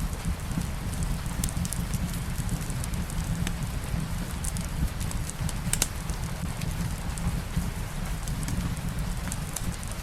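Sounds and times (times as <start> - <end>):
steady rain: 0.0 - 10.0
wood fire crackling: 0.0 - 10.0.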